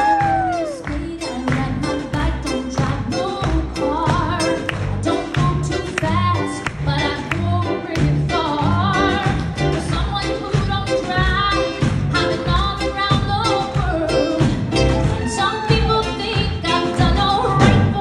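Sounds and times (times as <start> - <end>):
live band music: 0.0 - 18.0
woman singing: 0.0 - 18.0.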